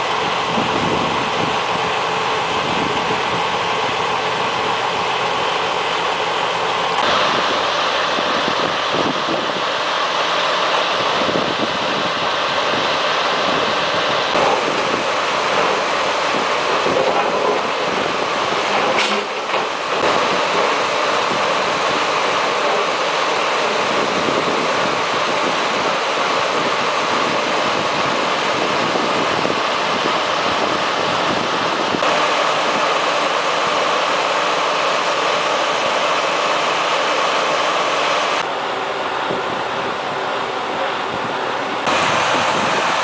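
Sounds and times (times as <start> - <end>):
crane engine droning: 0.0 - 43.0.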